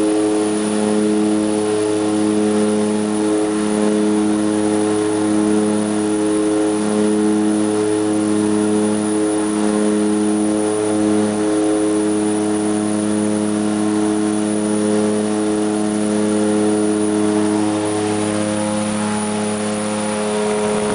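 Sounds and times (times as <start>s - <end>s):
propeller drone: 0.0s - 20.9s.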